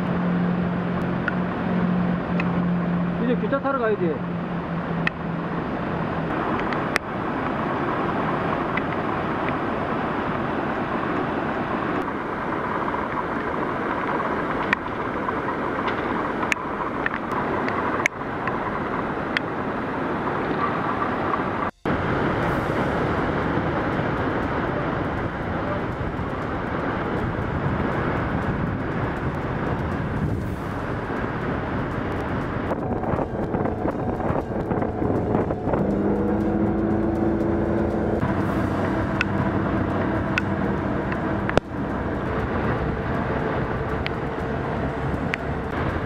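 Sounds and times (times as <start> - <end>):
river rushing: 0.0 - 46.0
waterfall roaring: 0.0 - 46.0.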